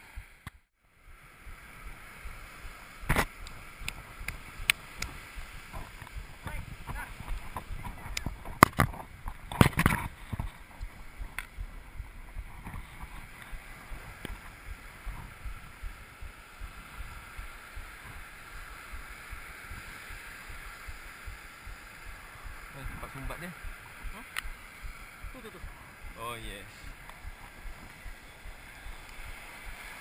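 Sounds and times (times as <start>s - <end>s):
wind on microphone: 1.0s - 30.0s
surf washing onto beach: 1.1s - 30.0s.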